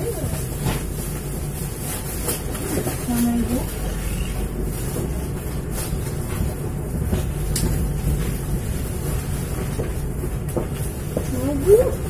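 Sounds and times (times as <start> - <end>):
train rumble from inside carriage: 0.0 - 12.0
train wheel clicks: 2.3 - 12.0.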